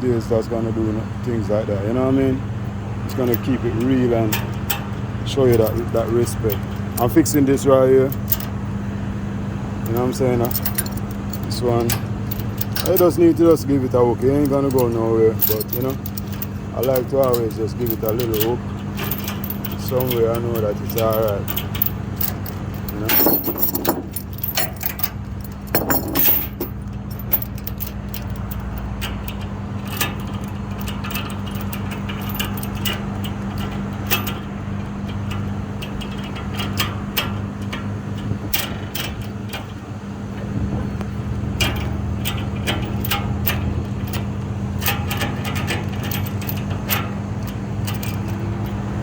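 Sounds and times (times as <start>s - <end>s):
low engine hum: 0.0s - 49.0s
metal chain and hook clanking: 3.1s - 8.7s, 9.8s - 49.0s.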